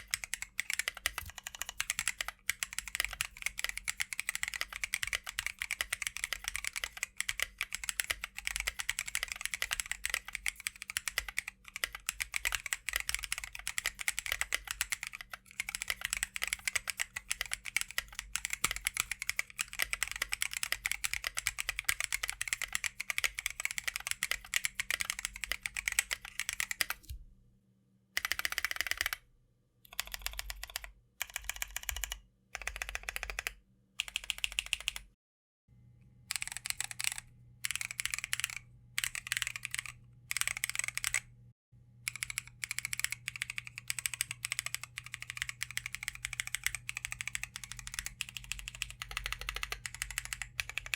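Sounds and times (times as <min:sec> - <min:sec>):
mechanical keyboard typing: 0:00.0 - 0:27.2, 0:28.2 - 0:29.2, 0:29.9 - 0:35.1, 0:36.3 - 0:41.3, 0:42.1 - 0:50.9.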